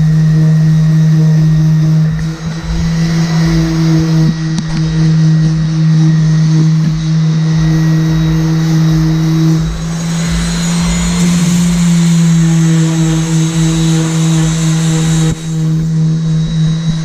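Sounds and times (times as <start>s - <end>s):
power sander running: 0.0s - 17.0s
sander rasping on surface: 0.0s - 17.0s.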